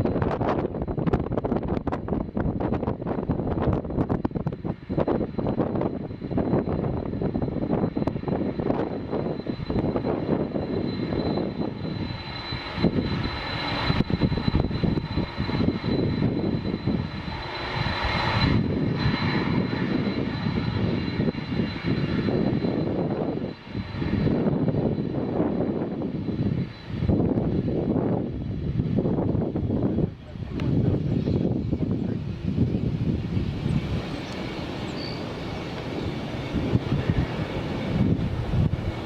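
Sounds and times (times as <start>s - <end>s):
jet airliner engines passing: 0.0s - 39.0s.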